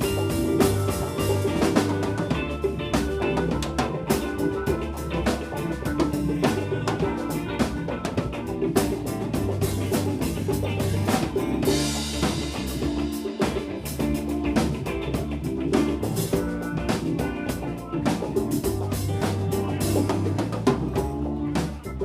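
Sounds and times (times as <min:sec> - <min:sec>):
drum kit beat: 0:00.0 - 0:22.0
live band playing: 0:00.0 - 0:22.0.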